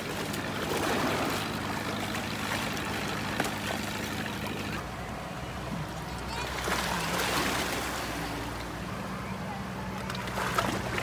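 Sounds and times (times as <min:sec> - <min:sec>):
water trickling and splashing: 0:00.0 - 0:04.9, 0:05.8 - 0:11.0
small boat engine running: 0:00.0 - 0:11.0.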